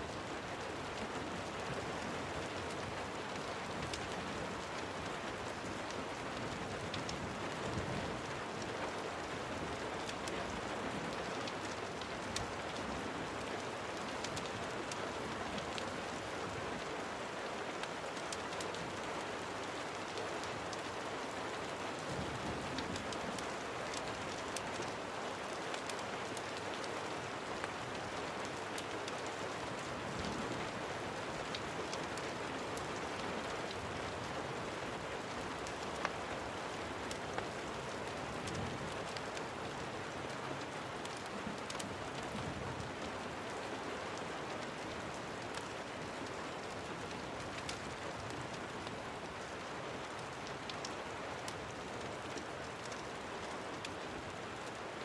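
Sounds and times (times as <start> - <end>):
steady rain: 0.0 - 55.0
wood fire crackling: 0.4 - 16.9, 17.5 - 55.0.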